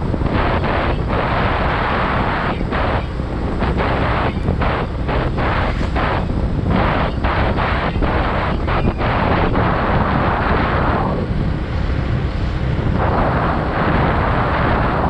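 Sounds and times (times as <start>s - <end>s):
motorcycle riding rumble: 0.0s - 15.0s
wind buffeting microphone: 0.0s - 15.0s.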